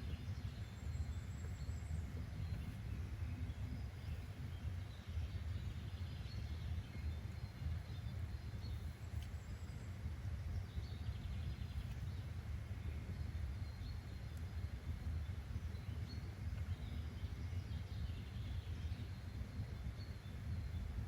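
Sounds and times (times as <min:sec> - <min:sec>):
faint bird chirps: 0:00.0 - 0:21.0
low background rumble: 0:00.0 - 0:21.0.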